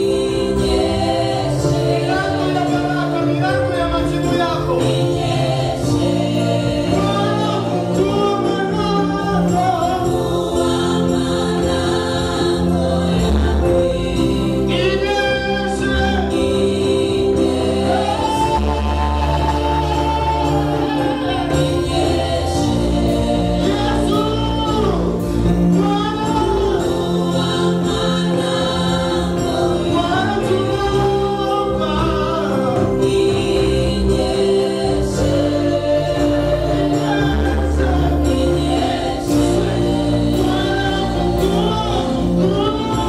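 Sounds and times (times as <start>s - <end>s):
amplified backing music: 0.0s - 43.0s
choir singing into microphones: 0.0s - 43.0s.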